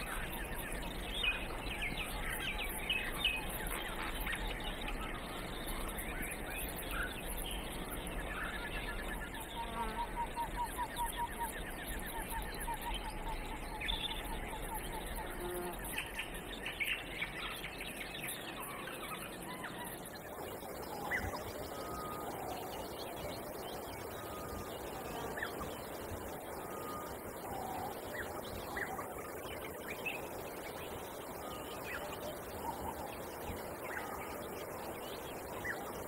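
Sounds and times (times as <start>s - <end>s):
birds chirping and calling: 0.0s - 34.5s
steady natural background: 0.0s - 36.0s.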